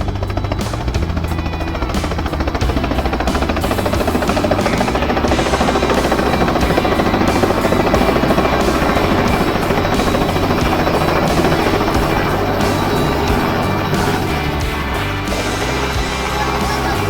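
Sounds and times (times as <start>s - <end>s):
background music: 0.0s - 17.0s
helicopter rotor and engine: 0.0s - 17.0s.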